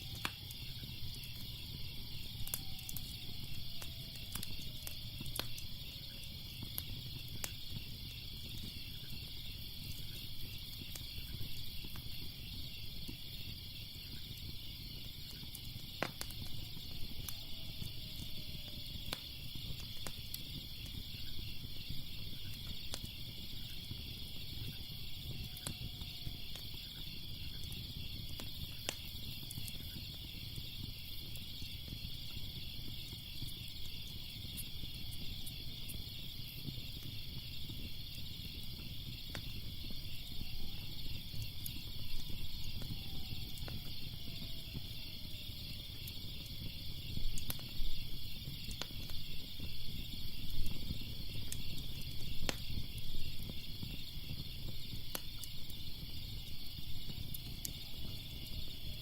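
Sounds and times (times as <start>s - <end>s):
crickets chirping: 0.0s - 59.0s
fire crackling and popping: 0.0s - 59.0s.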